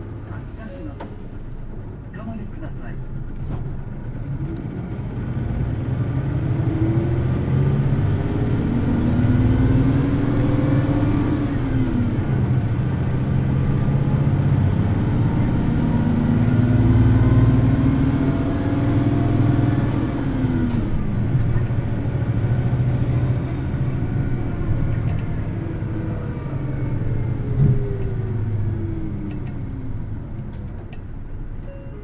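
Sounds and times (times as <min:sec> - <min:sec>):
bus engine at high revs: 0:00.0 - 0:31.7.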